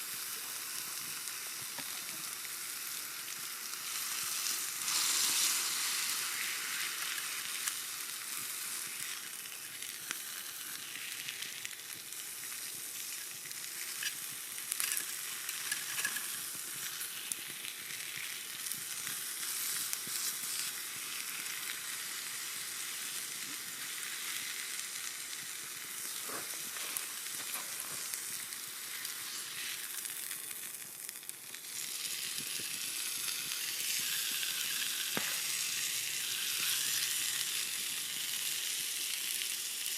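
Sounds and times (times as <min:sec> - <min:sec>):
steak sizzling on a griddle: 0:00.0 - 0:39.9.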